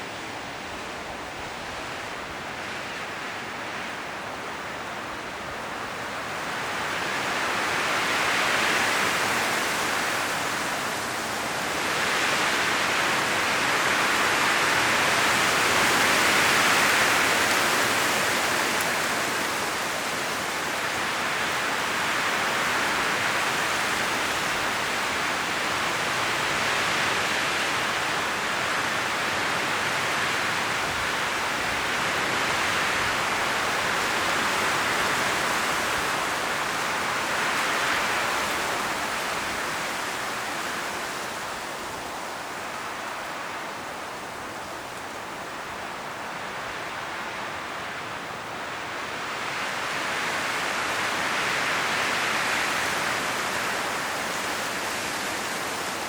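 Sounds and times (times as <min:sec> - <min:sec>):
wind rustling tree leaves: 0:00.0 - 0:56.0.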